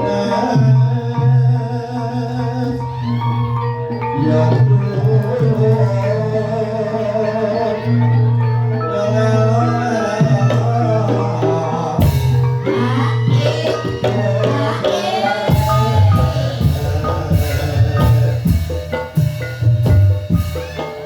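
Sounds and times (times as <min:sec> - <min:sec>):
person singing wavering melody: 0:00.0 - 0:21.0
struck metal mallet instruments: 0:00.0 - 0:21.0.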